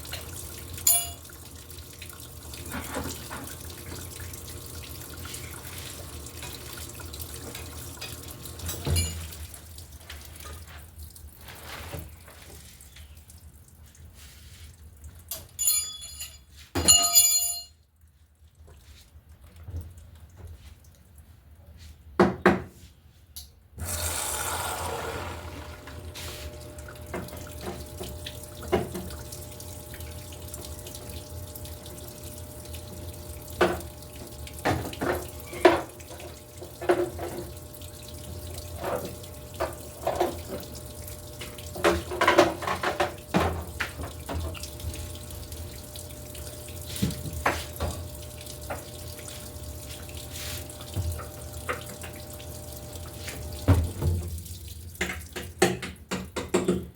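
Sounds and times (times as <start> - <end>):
water flowing into tub: 0.0 - 15.6, 23.8 - 56.6
water splashing and sloshing: 0.0 - 16.7, 18.1 - 22.2, 25.3 - 56.0.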